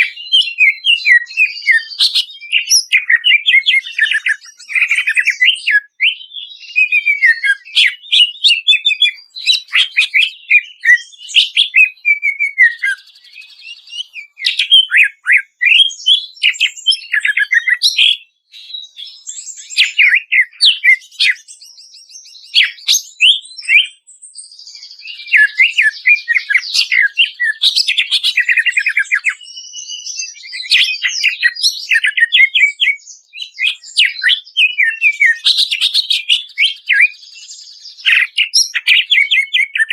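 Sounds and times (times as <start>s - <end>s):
bird singing fast varied song: 0.0s - 39.9s.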